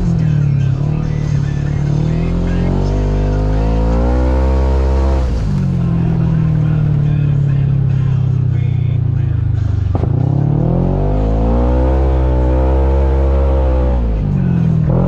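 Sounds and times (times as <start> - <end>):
engine pulling under throttle: 0.0 - 15.0.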